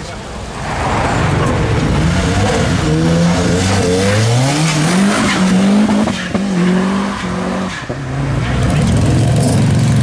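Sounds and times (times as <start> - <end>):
car engine revving: 0.3 - 9.7.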